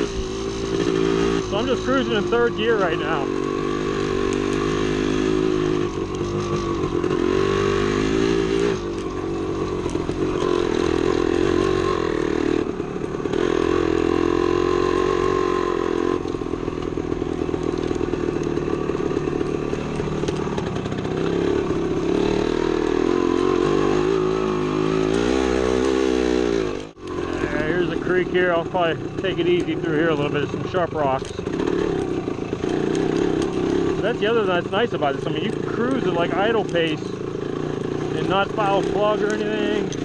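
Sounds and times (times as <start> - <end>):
two-stroke motorcycle engine running: 0.0 - 40.0.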